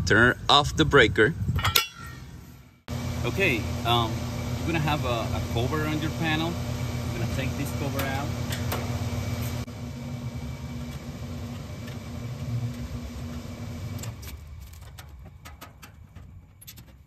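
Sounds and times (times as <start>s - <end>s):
low machine hum: 1.8s - 17.0s.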